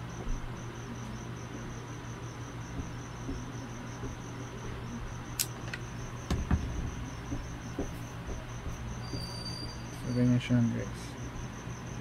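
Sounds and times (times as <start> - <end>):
insect chirping: 0.0 - 12.0
steady low hum: 0.0 - 12.0.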